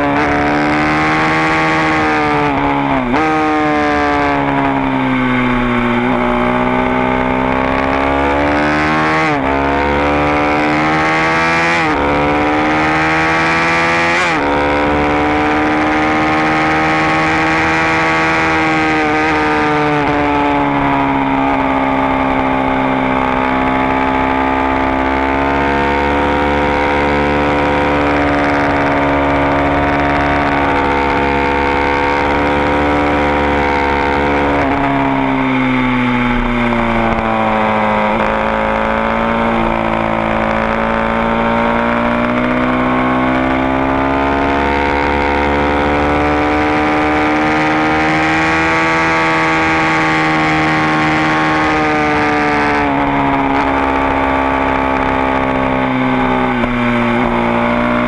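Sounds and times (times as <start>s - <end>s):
motorcycle engine at high revs: 0.0s - 58.0s.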